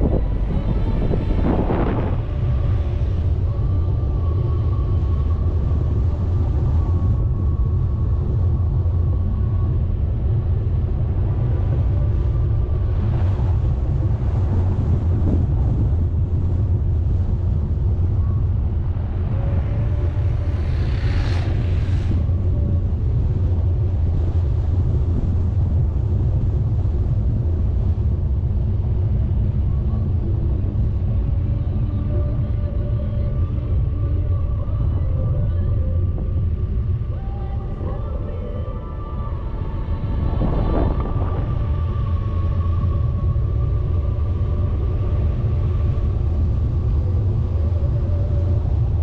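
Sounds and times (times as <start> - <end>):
vehicle driving on road: 0.0 - 49.0.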